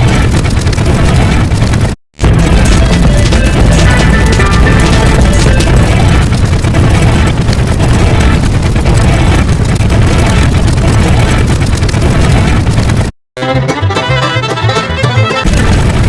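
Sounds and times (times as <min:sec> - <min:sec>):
layered sound effects with rumble: 0:00.0 - 0:16.0.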